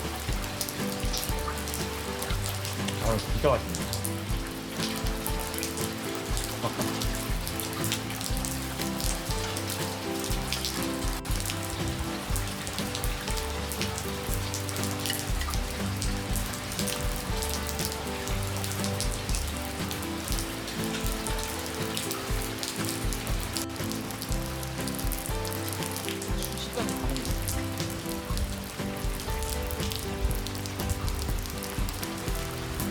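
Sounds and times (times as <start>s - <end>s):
soft music of slow held notes: 0.0s - 32.9s
steady rain falling: 0.0s - 32.9s.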